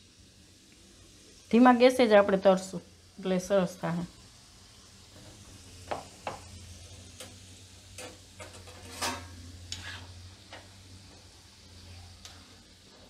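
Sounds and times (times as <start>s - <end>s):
soft sizzle of deep-frying: 0.0s - 13.0s.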